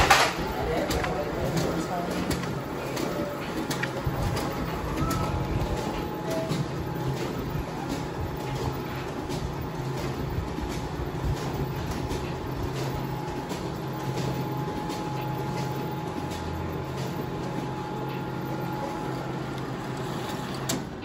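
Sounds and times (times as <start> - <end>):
copier motor and fan hum: 0.0 - 21.0.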